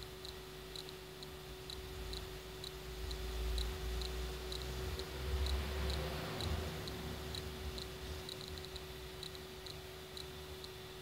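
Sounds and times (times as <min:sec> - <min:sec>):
faint even ticking: 0:00.0 - 0:11.0
steady low hum: 0:00.0 - 0:11.0.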